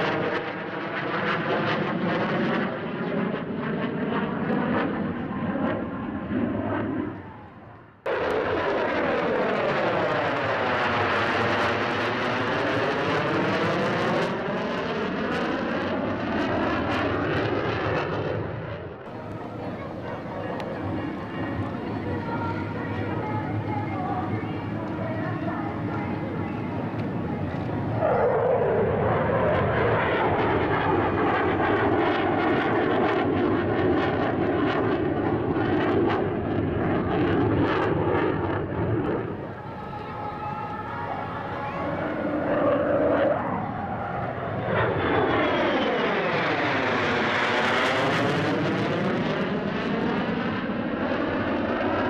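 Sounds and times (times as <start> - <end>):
jet roaring past: 0.0 - 52.0.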